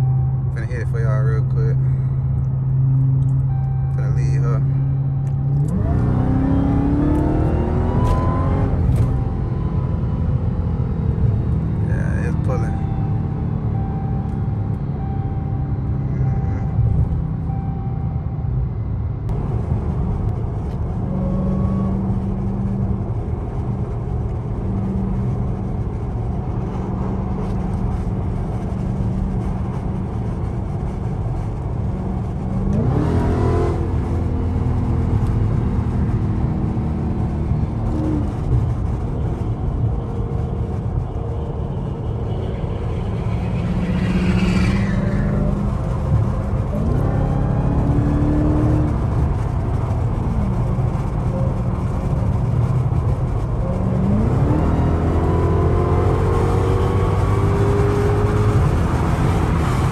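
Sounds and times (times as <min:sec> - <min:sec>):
car engine revving: 0:00.0 - 0:17.8, 0:19.3 - 0:59.9.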